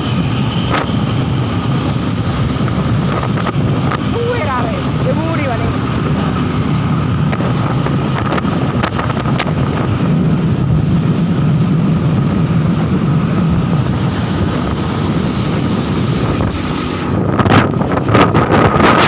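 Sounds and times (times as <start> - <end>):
motorcycle engine running: 0.0 - 19.0
road noise: 0.0 - 19.0
wind buffeting microphone: 0.0 - 19.0.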